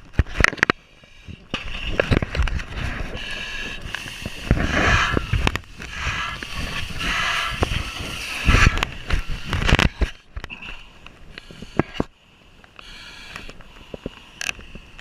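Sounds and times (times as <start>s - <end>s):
person breathing: 0.8s - 15.0s.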